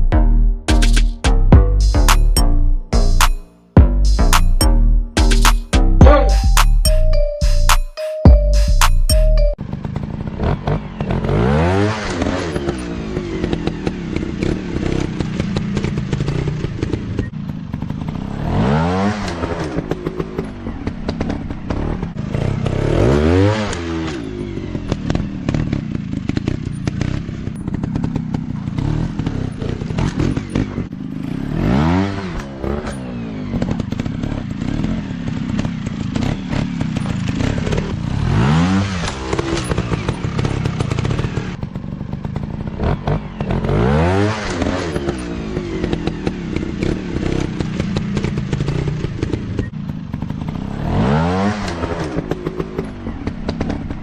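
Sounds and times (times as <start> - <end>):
dirt bike engines revving: 9.8 - 54.0.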